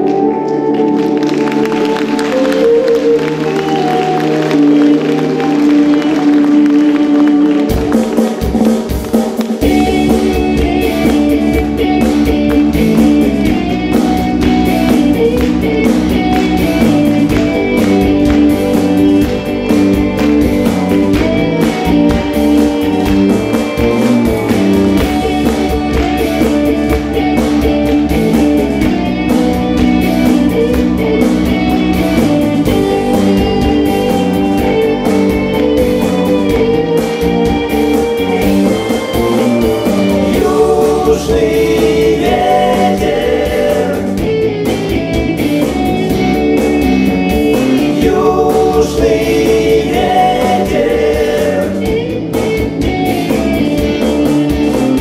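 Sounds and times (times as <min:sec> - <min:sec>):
live band with guitar: 0:00.0 - 0:55.0.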